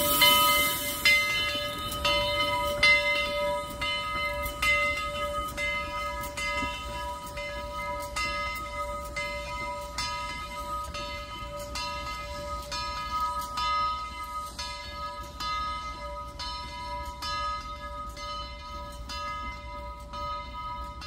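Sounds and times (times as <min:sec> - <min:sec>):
locomotive bell ringing: 0:00.0 - 0:21.0.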